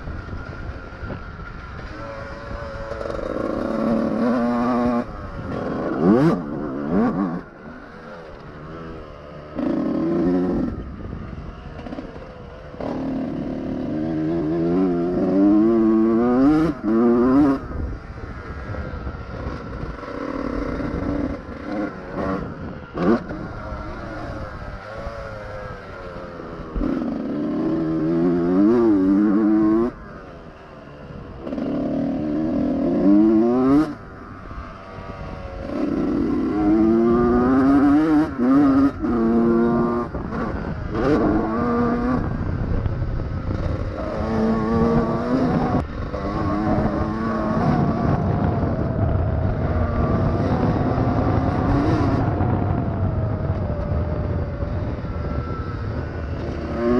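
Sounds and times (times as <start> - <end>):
motocross engine revving: 0.2 - 52.8, 55.2 - 56.9.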